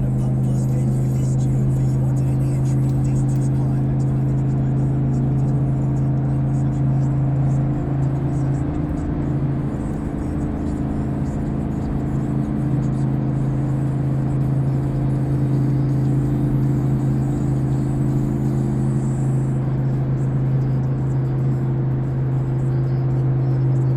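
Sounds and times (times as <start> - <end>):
truck exhaust drone: 0.0 - 23.9.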